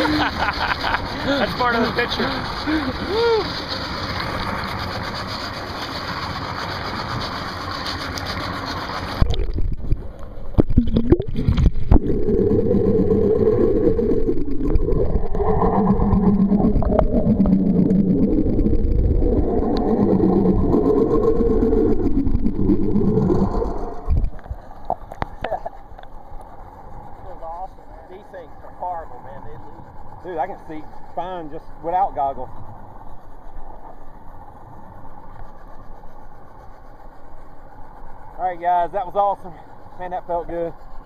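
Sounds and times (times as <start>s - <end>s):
outboard motors idling: 0.0s - 10.7s, 11.8s - 41.0s.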